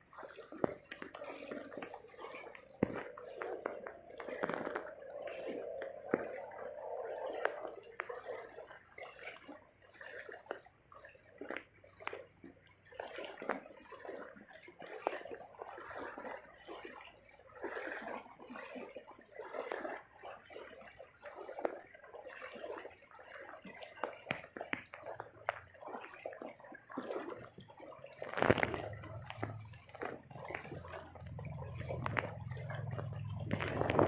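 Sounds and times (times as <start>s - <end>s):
water splashing and sloshing: 0.0s - 34.0s.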